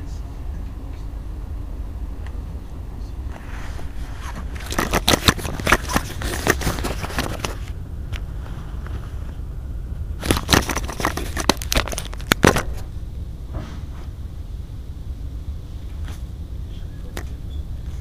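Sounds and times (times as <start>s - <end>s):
electric train humming: 0.0s - 10.3s, 12.1s - 18.0s.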